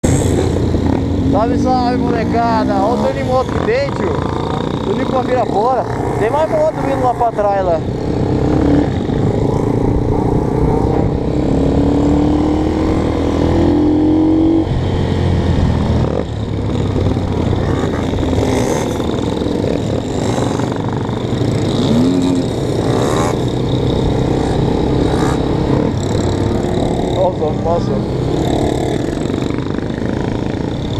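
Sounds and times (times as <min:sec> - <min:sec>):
motorcycles accelerating past: 0:00.0 - 0:30.9.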